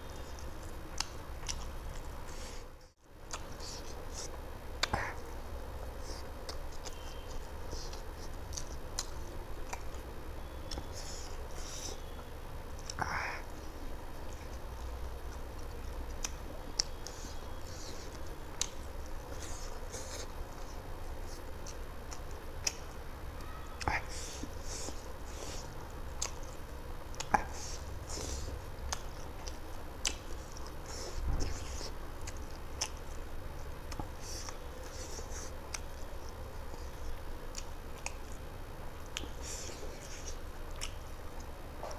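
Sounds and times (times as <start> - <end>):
person chewing with wet smacking: 0.0 - 41.9.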